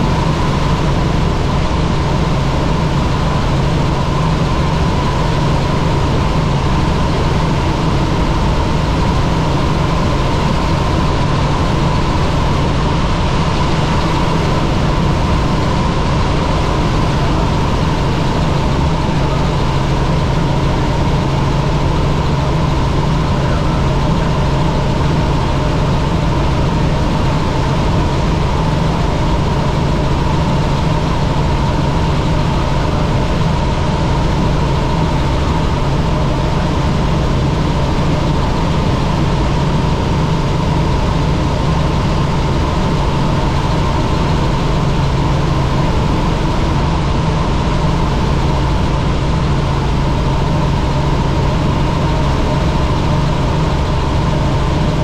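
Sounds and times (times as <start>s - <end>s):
helicopter engine and rotor drone: 0.0s - 55.0s
helicopter whine: 0.0s - 55.0s.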